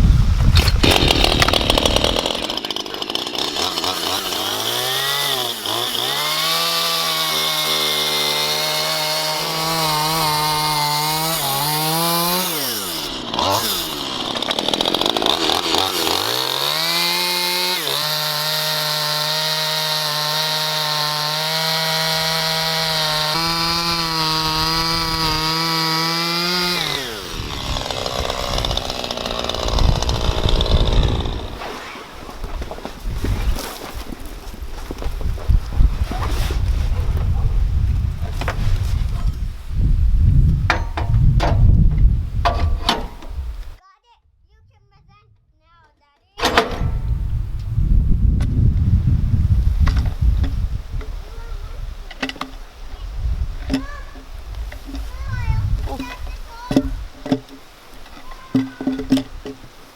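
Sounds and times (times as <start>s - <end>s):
chainsaw cutting log: 0.4s - 43.8s, 46.4s - 47.3s, 53.6s - 59.9s.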